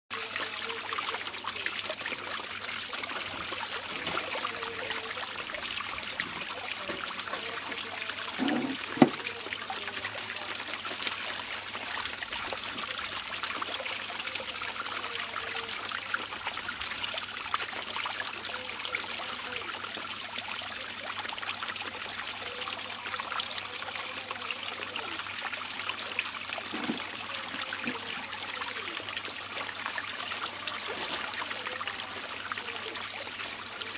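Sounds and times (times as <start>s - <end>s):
water draining in basin: 0.1s - 33.9s.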